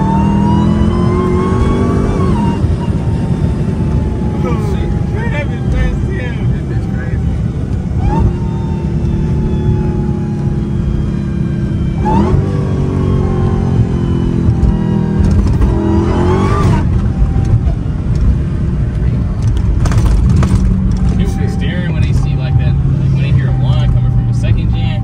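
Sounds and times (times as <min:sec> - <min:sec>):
car engine rumbling and revving: 0:00.0 - 0:25.0.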